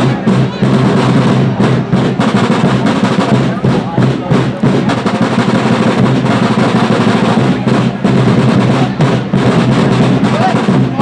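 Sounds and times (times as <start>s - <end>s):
bass drum: 0.0s - 11.0s
snare drum rolls: 0.0s - 11.0s.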